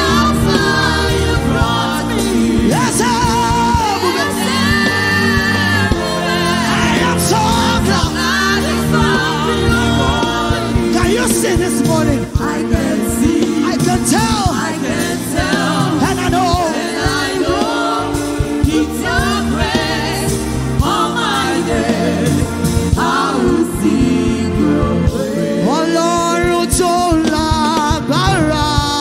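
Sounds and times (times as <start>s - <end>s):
person singing gospel: 0.0s - 29.0s.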